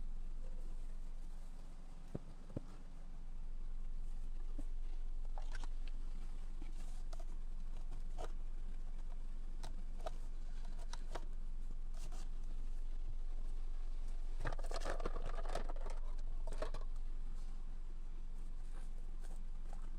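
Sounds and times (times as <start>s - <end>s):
low electrical hum: 0.0s - 19.9s.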